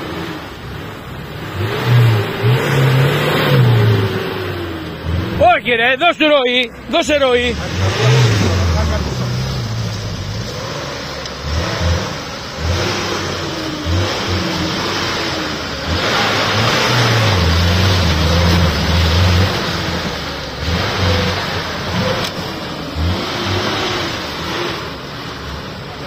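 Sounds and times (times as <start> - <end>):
engine revving under load: 0.0 - 6.0, 6.6 - 26.0.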